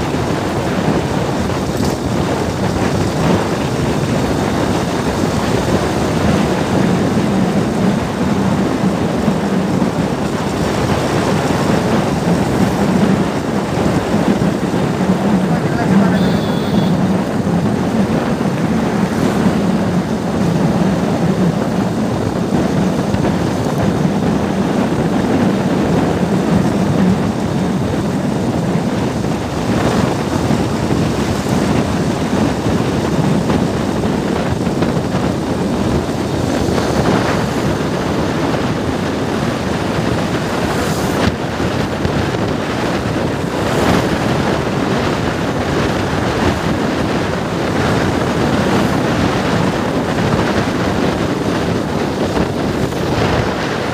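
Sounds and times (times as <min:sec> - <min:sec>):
vehicle crossing bridge deck: 0:00.0 - 0:53.9
wind rush on microphone: 0:00.0 - 0:53.9.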